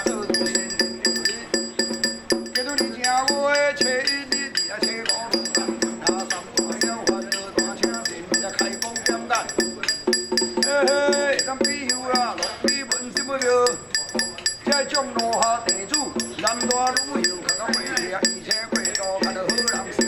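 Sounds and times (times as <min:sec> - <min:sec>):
fast percussion beat: 0:00.0 - 0:20.0
high ringing tone: 0:00.0 - 0:20.0.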